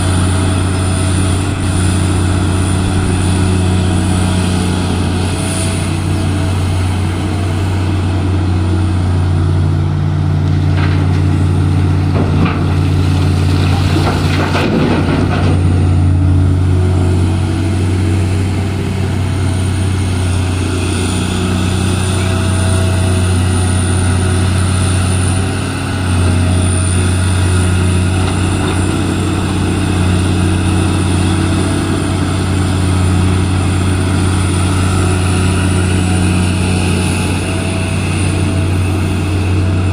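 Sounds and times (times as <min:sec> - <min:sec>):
heavy diesel machinery drone: 0:00.0 - 0:39.9.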